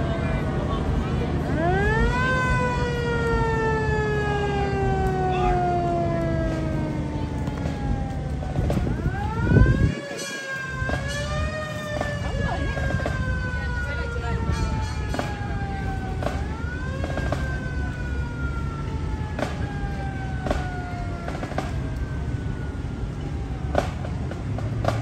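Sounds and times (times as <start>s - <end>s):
fire truck siren wailing: 0.0s - 25.0s.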